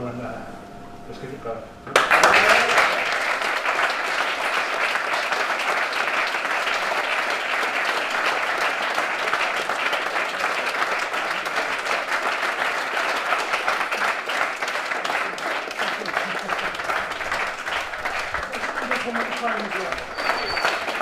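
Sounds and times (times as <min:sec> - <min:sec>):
crowd applauding: 0:01.9 - 0:21.0.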